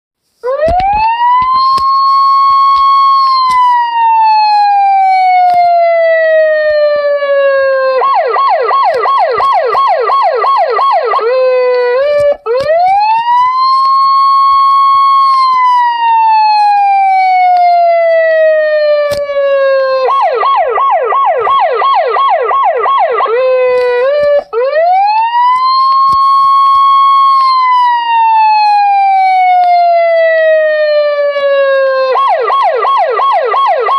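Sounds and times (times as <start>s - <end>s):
police siren ringtone: 0.4s - 33.9s.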